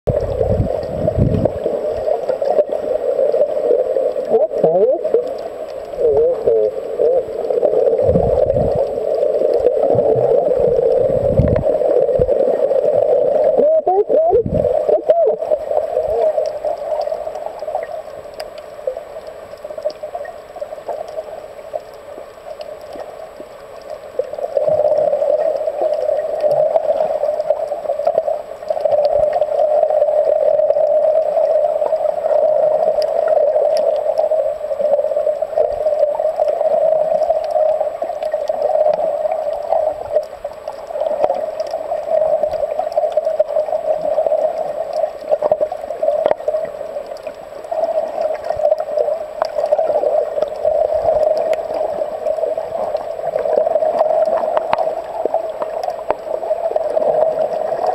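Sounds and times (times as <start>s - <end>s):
muffled underwater rushing water: 0.0s - 57.9s.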